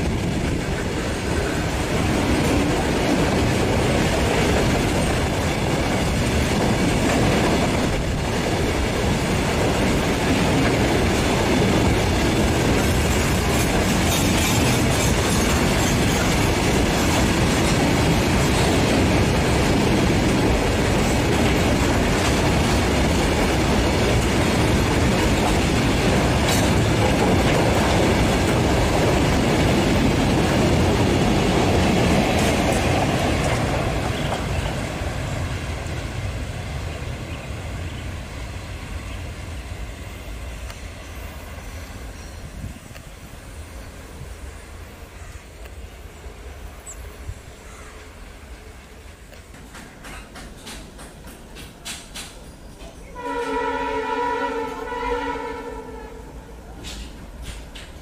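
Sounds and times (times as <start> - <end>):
freight train clattering past: 0.0 - 58.0.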